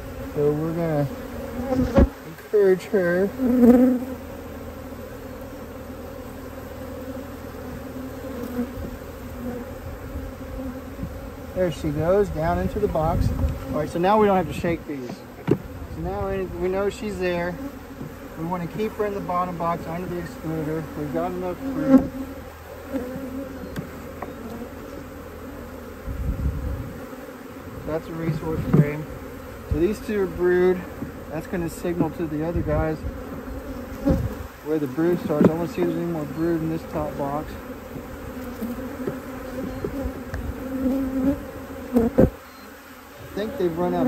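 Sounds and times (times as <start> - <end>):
honey bees buzzing: 0.0 - 44.0.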